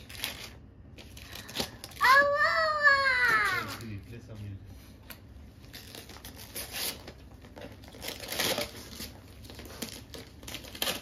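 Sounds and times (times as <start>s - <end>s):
wrapping paper crinkling and tearing: 0.0s - 4.6s, 5.5s - 11.0s.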